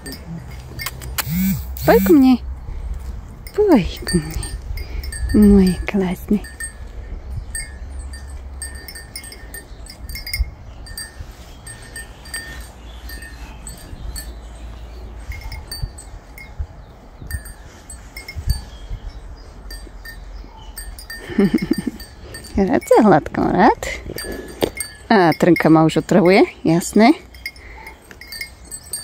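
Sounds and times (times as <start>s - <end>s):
small metal chimes tinkling: 0.0s - 2.4s, 3.0s - 29.0s.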